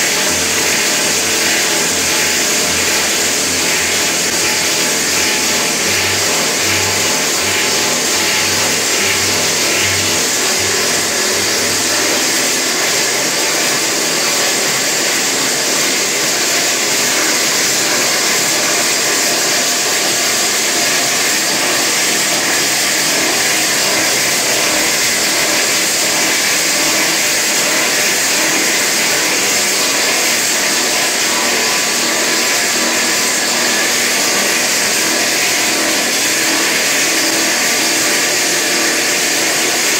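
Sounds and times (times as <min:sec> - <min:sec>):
hydraulic drill rig drilling: 0:00.0 - 0:39.9.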